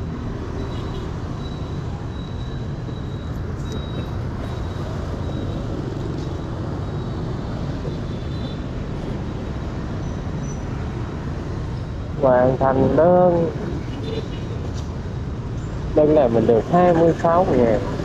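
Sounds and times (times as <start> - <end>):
road traffic engine rumble: 0.0 - 18.0.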